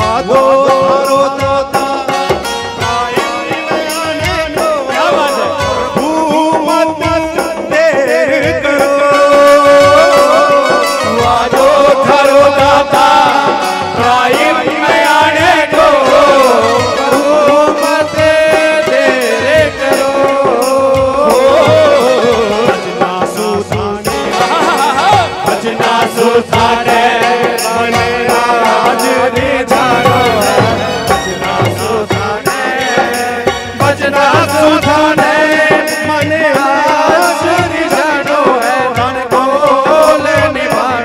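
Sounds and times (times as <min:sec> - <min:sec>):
drums: 0:00.0 - 0:41.0
keyboard: 0:00.0 - 0:41.0
lead singer and male voices singing: 0:00.0 - 0:41.0.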